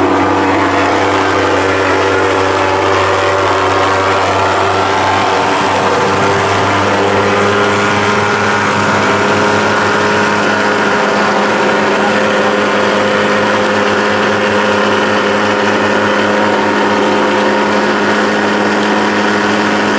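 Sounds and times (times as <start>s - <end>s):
pulse-jet fogging machine running: 0.0s - 19.9s.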